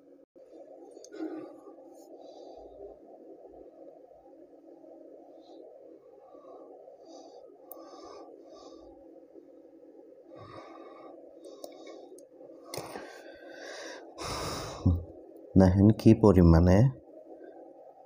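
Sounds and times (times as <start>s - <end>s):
small fan whirring: 0.0s - 18.0s.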